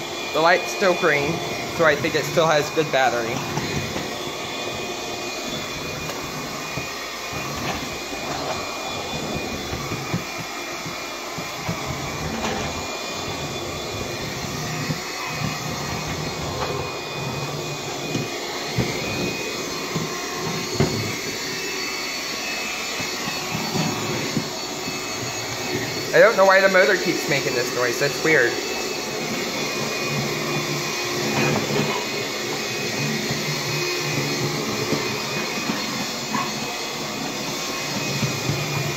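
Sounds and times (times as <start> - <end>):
stick vacuum motor running: 0.0 - 38.9.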